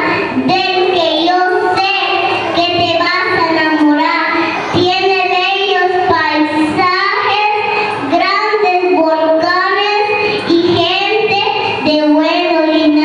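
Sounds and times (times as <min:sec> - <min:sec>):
girl reciting into a microphone: 0:00.0 - 0:13.0.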